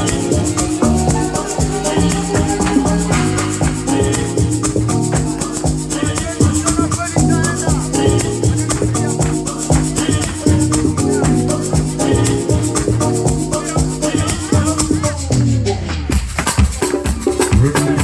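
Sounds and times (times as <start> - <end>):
loud dance music: 0.0 - 18.0
rattling shaker rhythm: 0.0 - 18.0
steady bass: 0.0 - 18.0.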